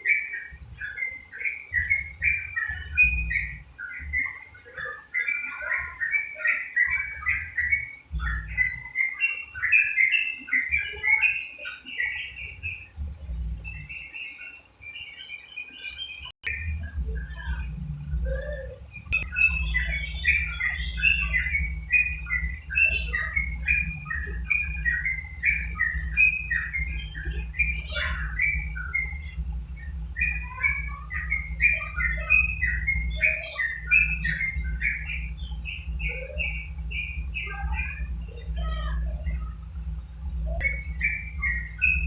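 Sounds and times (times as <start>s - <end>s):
steady low hum: 0.0s - 15.4s, 16.2s - 42.0s
bird chirping rapidly: 0.0s - 42.0s.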